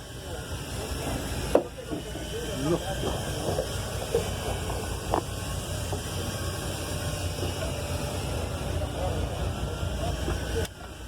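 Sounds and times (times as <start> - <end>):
boat engine rumbling: 0.0 - 11.0
wind and sea hiss: 0.0 - 11.0.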